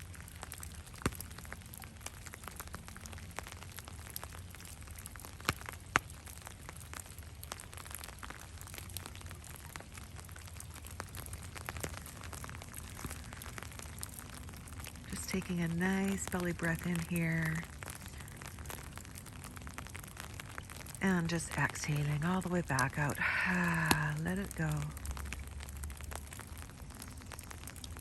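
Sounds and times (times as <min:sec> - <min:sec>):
light rain on seawater: 0:00.0 - 0:28.0.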